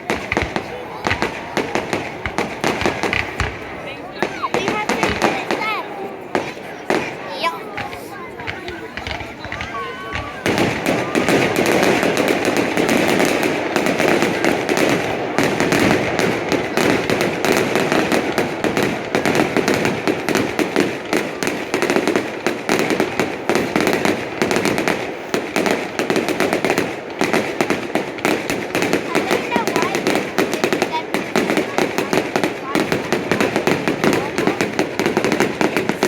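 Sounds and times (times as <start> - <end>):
fireworks crackles and bangs: 0.0 - 36.0.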